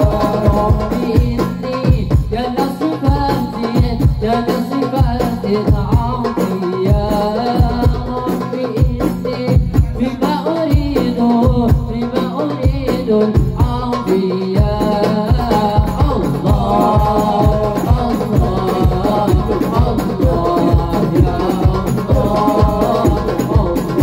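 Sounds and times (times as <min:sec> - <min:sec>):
hand drums beating: 0:00.0 - 0:24.0
man singing through a pa: 0:00.0 - 0:24.0.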